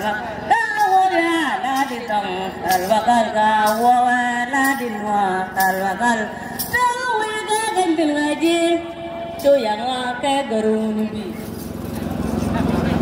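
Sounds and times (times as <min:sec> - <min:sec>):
women singing: 0:00.0 - 0:11.3.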